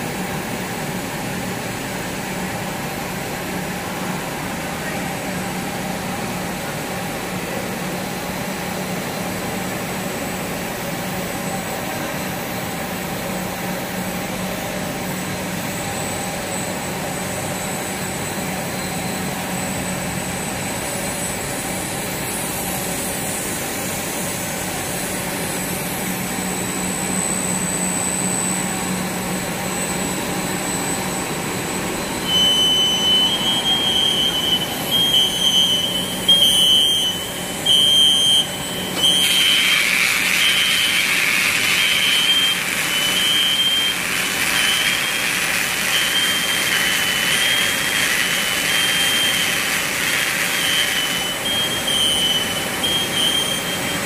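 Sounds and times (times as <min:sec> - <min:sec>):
extrusion machine noise with hum: 0:00.0 - 0:54.0.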